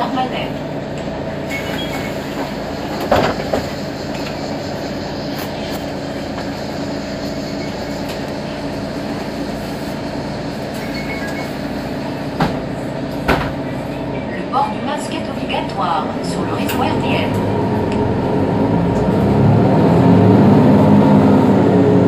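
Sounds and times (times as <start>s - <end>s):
bus engine idling: 0.0s - 22.0s.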